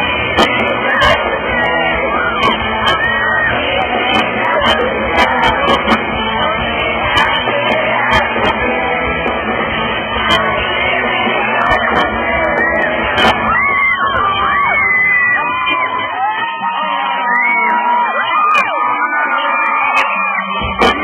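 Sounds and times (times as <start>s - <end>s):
live rock band playing: 0.0s - 21.0s
person singing: 0.0s - 21.0s.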